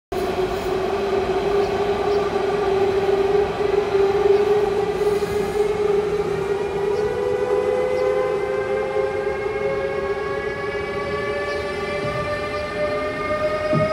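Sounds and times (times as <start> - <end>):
electric locomotive starting whine: 0.1 - 13.9.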